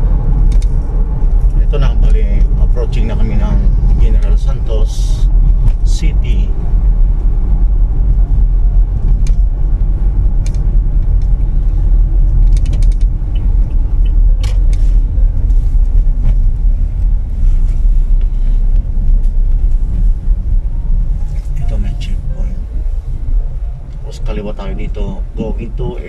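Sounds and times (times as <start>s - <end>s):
car road rumble: 0.0s - 26.0s.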